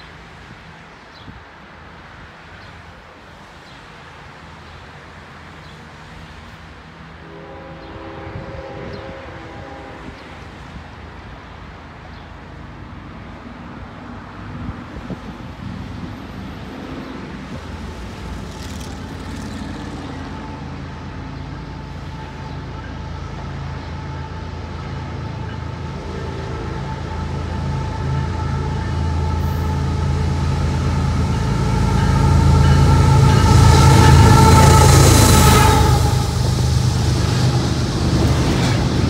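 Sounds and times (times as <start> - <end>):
diesel locomotive engine rumble: 0.0 - 39.0.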